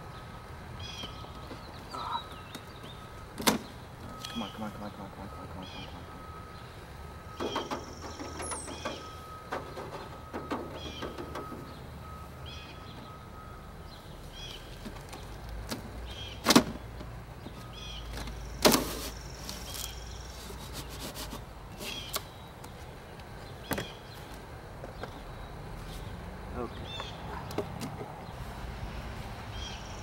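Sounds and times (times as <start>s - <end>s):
bird chirping: 0.0s - 21.0s, 21.7s - 28.4s.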